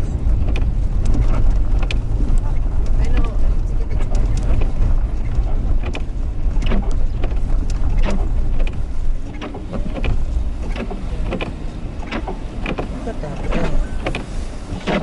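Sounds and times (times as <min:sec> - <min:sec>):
car cabin road rumble: 0:00.0 - 0:15.0
sharp clicks and knocks: 0:00.3 - 0:15.0.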